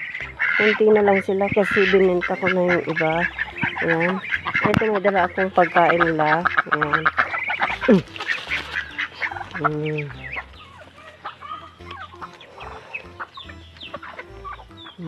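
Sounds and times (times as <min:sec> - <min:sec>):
ducks quacking and honking: 0:00.0 - 0:15.0.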